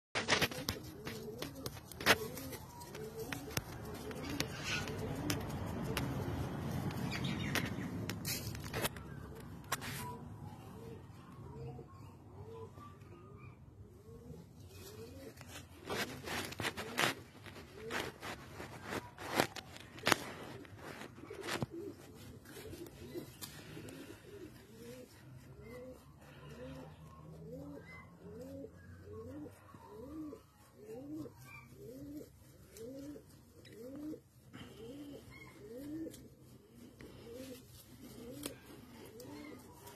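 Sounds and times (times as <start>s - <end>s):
grass being torn and chewed: 0.2s - 10.4s, 14.8s - 39.9s.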